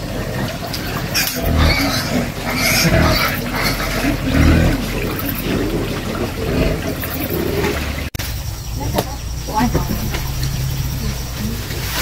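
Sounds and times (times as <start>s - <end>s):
animal calling: 0.0s - 12.0s.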